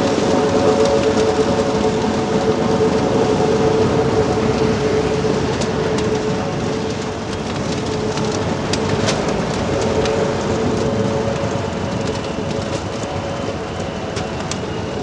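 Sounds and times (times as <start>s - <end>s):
diesel engine whining: 0.0s - 15.0s.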